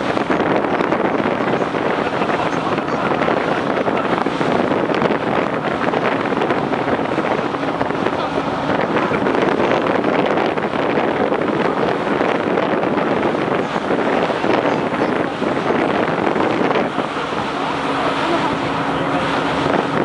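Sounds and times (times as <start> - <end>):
boat engine running: 0.0 - 20.0
rushing water: 0.0 - 20.0
wind buffeting microphone: 0.0 - 20.0.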